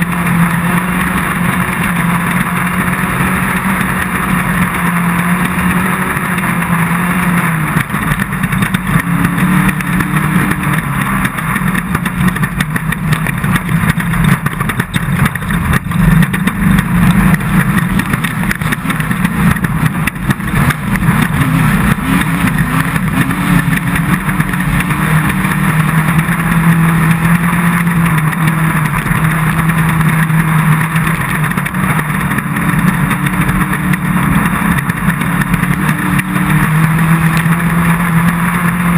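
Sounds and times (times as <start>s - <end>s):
race car engine running hard: 0.0s - 38.9s
rattling and road noise: 0.0s - 38.9s.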